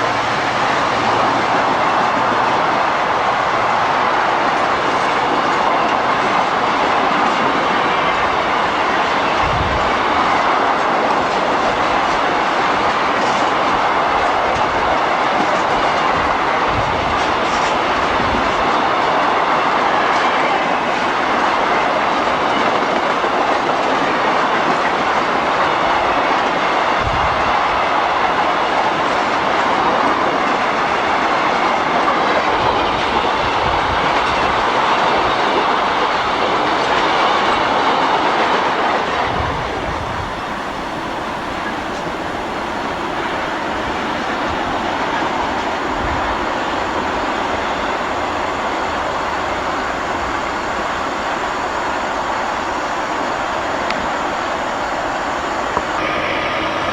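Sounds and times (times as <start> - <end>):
freight train cars rolling past: 0.0 - 56.9.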